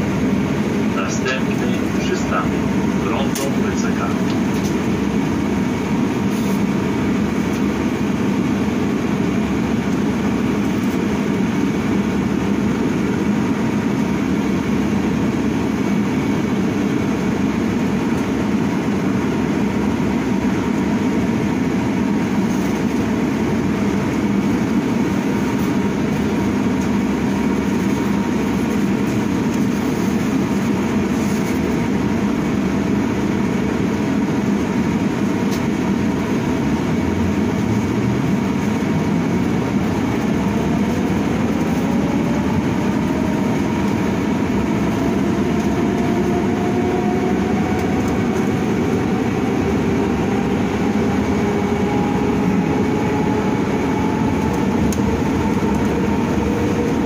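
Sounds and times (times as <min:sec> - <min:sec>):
electric bus running hum: 0:00.0 - 0:57.0.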